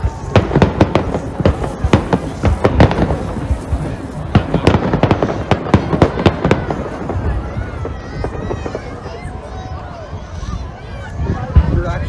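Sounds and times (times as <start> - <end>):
fireworks bangs and crackles: 0.0 - 10.6, 11.4 - 12.0.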